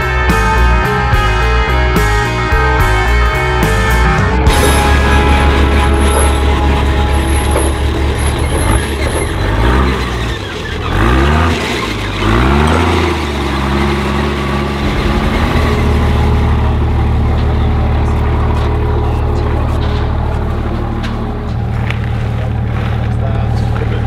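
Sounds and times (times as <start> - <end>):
tracked vehicle engine revving: 0.2 - 24.0.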